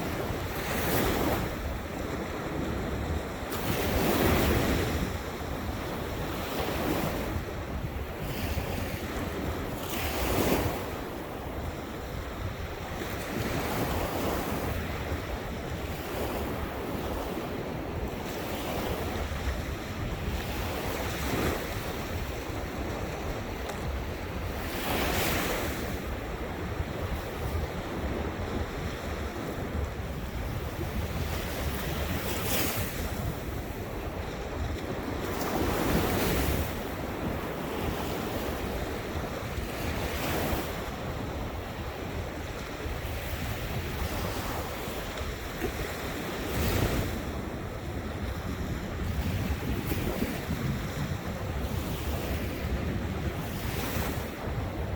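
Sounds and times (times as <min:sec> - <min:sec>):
ocean waves breaking: 0:00.0 - 0:54.9
wind noise on microphone: 0:00.0 - 0:54.9.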